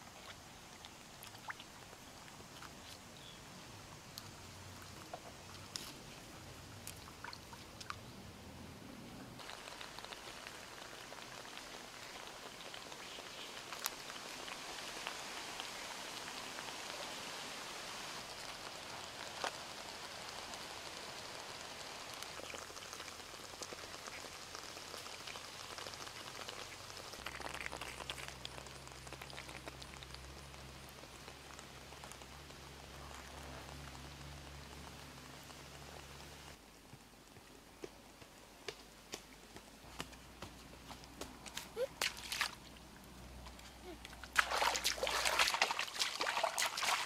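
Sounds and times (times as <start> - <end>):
wet crackling of muddy water: 0.0 - 8.2, 9.4 - 47.0.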